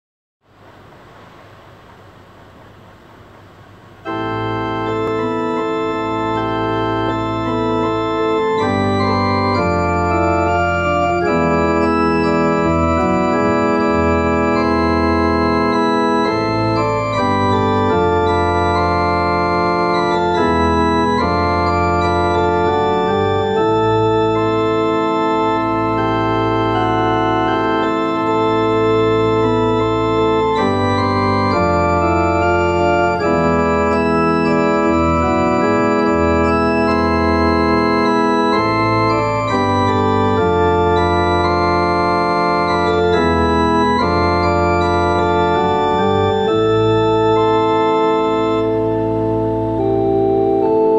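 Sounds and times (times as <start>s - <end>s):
church organ chords: 3.9s - 50.9s.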